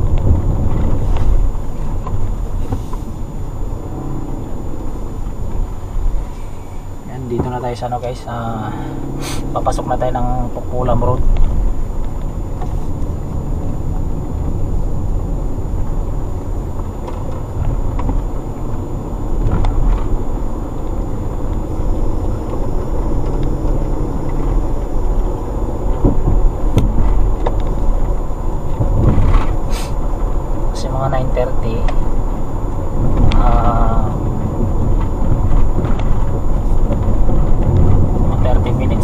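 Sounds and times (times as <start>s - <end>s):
car road noise rumble: 0.0s - 39.0s.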